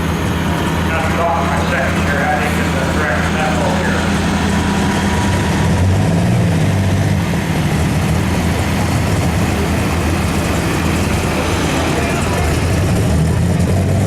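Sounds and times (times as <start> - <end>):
heavy vehicle engine droning: 0.0 - 14.0.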